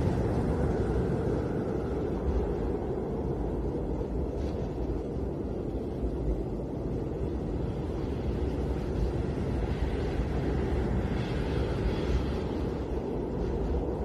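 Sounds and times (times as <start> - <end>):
snowstorm wind rushing: 0.0 - 14.0.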